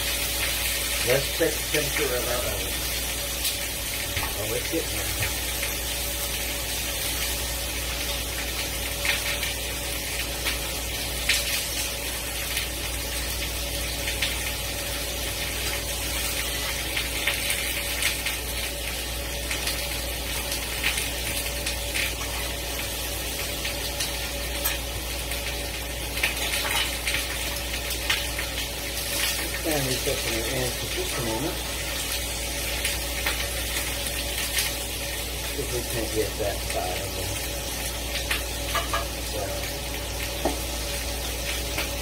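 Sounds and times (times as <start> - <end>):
butter sizzling in a skillet: 0.0 - 42.0.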